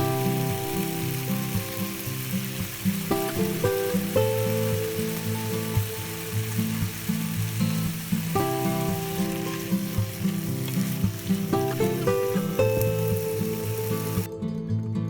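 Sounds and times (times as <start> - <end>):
food sizzling in a pan: 0.0 - 14.3
light background music: 0.0 - 15.0
food being stirred: 0.2 - 14.3.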